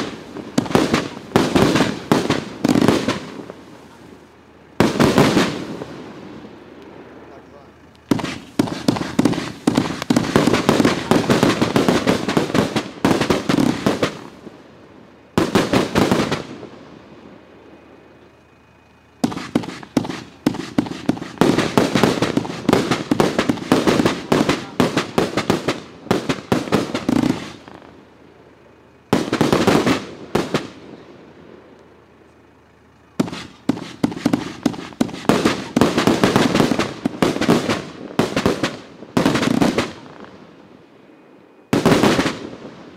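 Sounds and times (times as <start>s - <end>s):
firework cake firing volleys: 0.0s - 40.7s, 41.7s - 42.9s.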